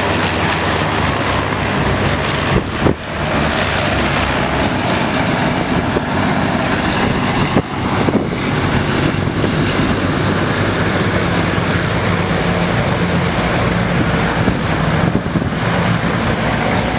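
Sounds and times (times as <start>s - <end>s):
hovercraft engine and propeller: 0.0s - 16.9s.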